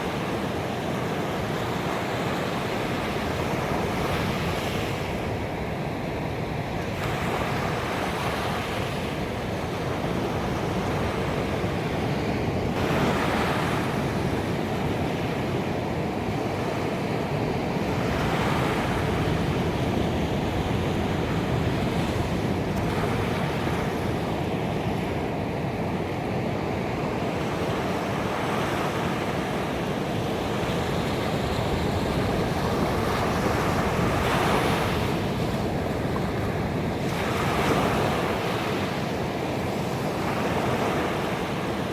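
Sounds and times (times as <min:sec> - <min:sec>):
ocean surf washing onto beach: 0:00.0 - 0:41.9.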